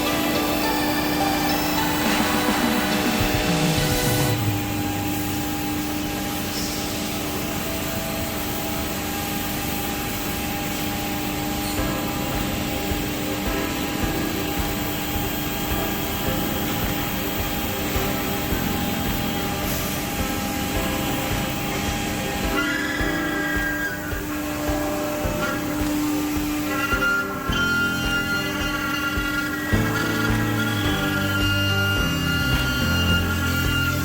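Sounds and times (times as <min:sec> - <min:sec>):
machine motor noise: 0:00.0 - 0:34.0
router spindle whining: 0:00.0 - 0:34.0.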